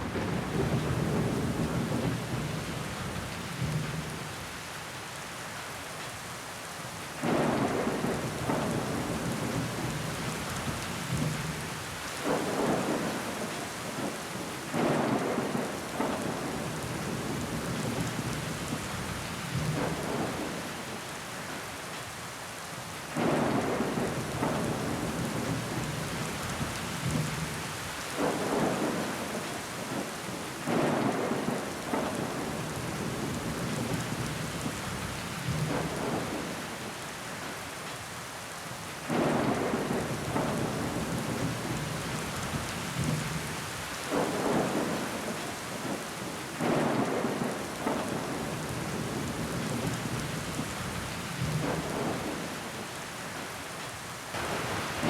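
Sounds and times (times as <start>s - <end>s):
rain against a window: 0.0s - 55.0s.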